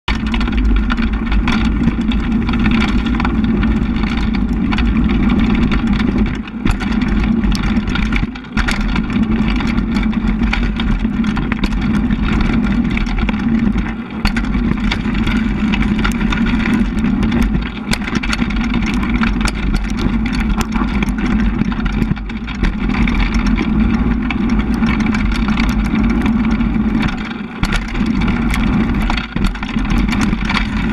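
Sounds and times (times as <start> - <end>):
bike tyre rumbling on gravel: 0.0 - 30.9
stones and bike parts rattling: 0.1 - 30.9.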